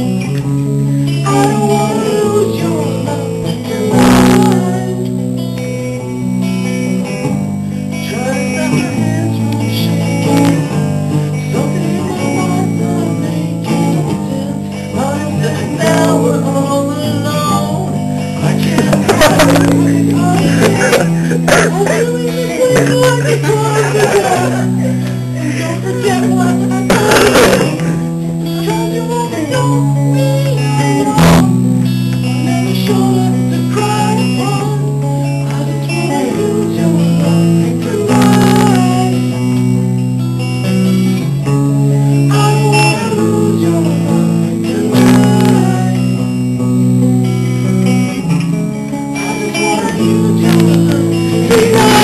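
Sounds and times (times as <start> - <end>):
guitar chords: 0.0 - 52.0
person singing: 1.1 - 5.6, 7.9 - 40.0, 40.6 - 46.7, 47.4 - 52.0.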